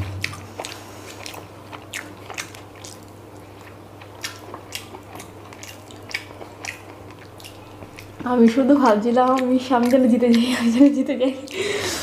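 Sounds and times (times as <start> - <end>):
low steady hum: 0.0 - 12.0
chewing and lip smacks: 0.2 - 11.6.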